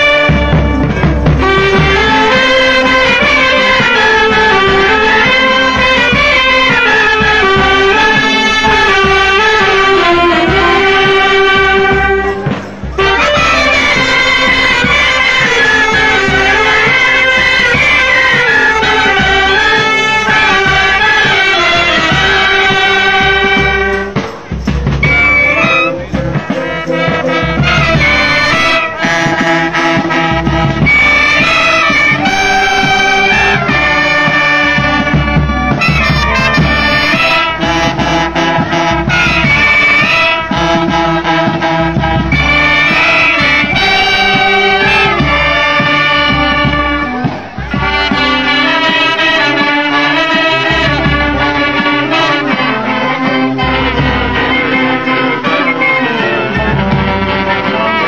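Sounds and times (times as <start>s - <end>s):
brass and woodwind band playing: 0.0s - 58.0s.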